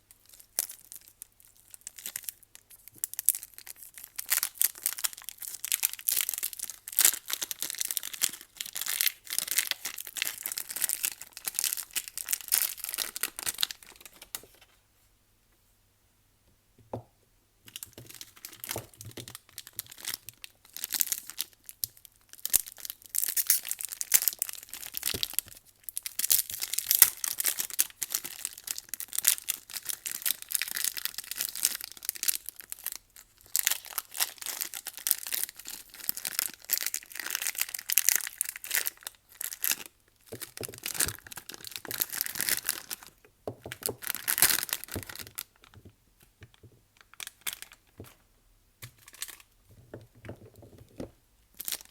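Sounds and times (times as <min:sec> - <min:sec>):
wrappers crinkling and tearing: 0:00.2 - 0:14.7, 0:17.7 - 0:45.8, 0:47.0 - 0:47.9, 0:51.6 - 0:51.9.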